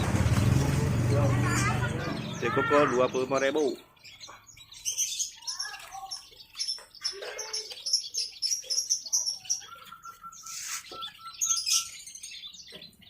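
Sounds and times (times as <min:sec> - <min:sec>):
songbirds chirping and twittering: 0:00.0 - 0:13.0.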